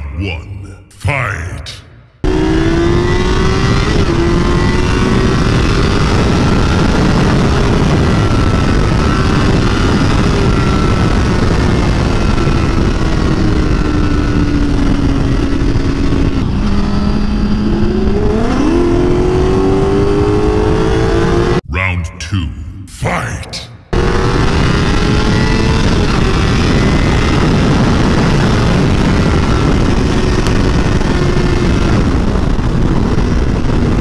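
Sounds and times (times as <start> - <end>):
motorcycle engine: 2.2 - 21.6, 23.8 - 34.0.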